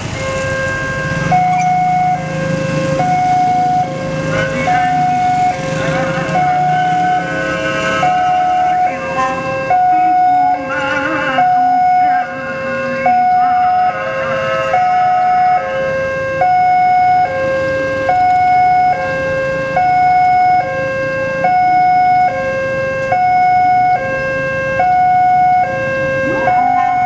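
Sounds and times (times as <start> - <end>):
level crossing alarm two-tone: 0.2 - 27.0.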